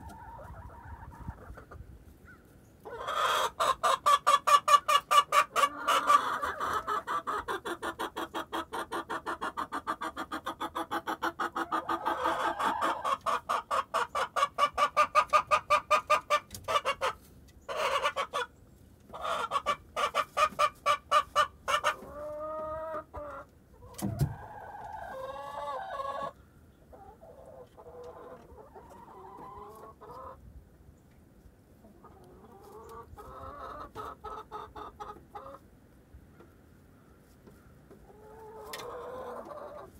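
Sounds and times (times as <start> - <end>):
hens clucking: 0.0 - 30.4, 31.1 - 39.9.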